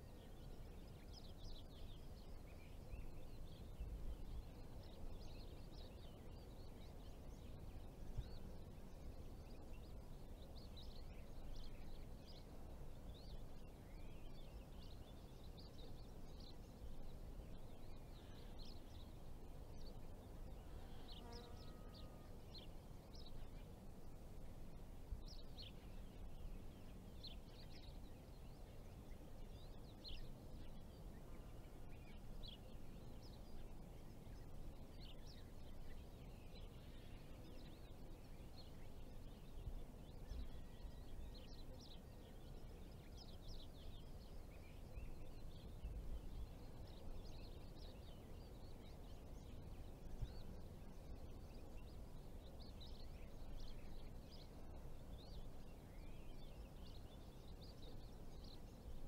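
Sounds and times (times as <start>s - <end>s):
low rumble of open air: 0.0s - 59.0s
small birds chirping: 0.0s - 59.0s.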